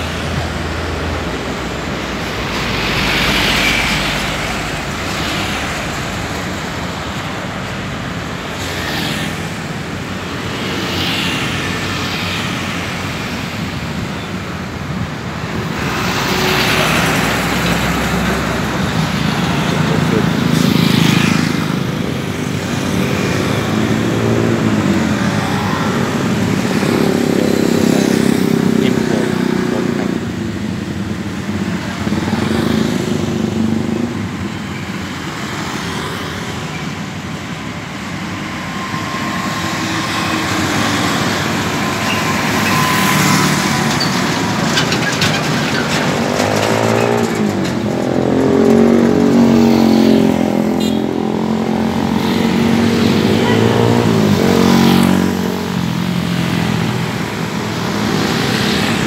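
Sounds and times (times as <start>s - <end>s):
cars passing: 0.0s - 59.0s
motorcycles passing: 0.0s - 59.0s
trucks passing: 0.0s - 59.0s.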